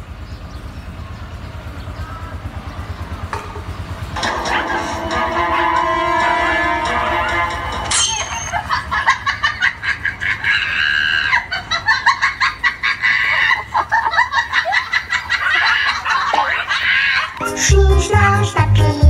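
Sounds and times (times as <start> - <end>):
high clucking calls: 0.9 - 17.7.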